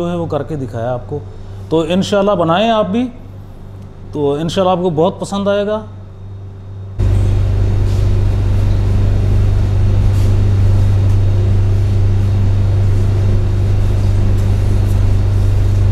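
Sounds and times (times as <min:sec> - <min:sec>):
low electrical hum: 0:00.0 - 0:15.9.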